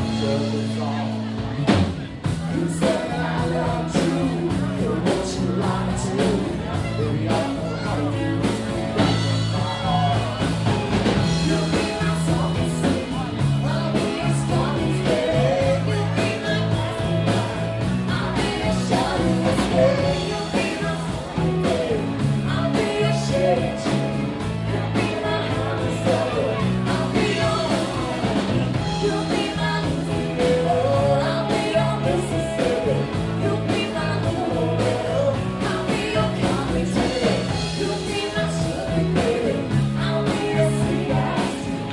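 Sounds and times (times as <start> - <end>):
bass line: 0.0 - 41.9
lead vocal singing: 0.0 - 41.9
rock band playing: 0.0 - 41.9.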